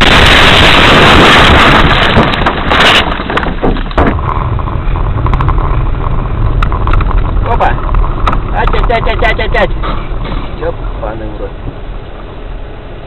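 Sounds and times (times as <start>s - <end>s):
vehicle rumble: 0.0s - 13.0s
wind and road noise: 0.0s - 13.0s.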